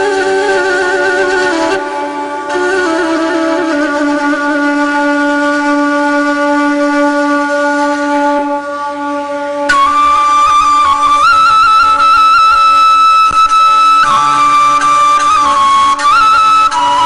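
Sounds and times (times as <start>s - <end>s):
flute-like folk melody: 0.0s - 17.0s.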